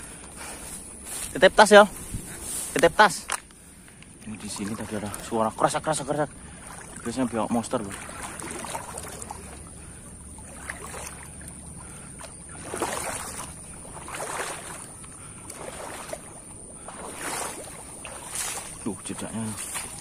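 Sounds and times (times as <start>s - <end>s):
footsteps through undergrowth: 0.0s - 20.0s
leaves rustling: 0.0s - 20.0s
low wind rumble: 0.0s - 20.0s.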